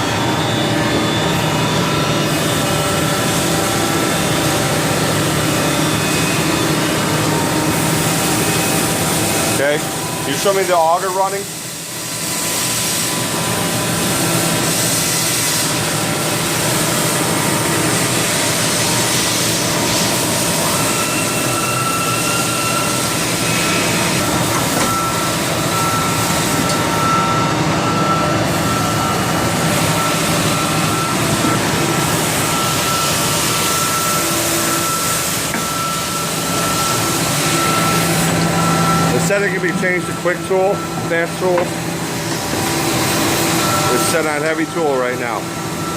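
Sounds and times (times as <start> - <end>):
machine chip auger running: 0.0 - 45.9
thin steady whine: 0.0 - 45.9.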